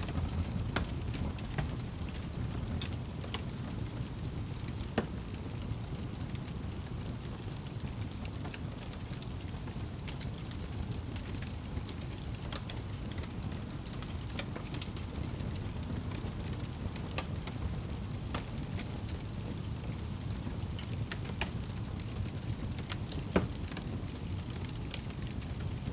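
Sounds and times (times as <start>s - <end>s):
fire crackling and popping: 0.0s - 25.9s
steady rain: 0.0s - 25.9s.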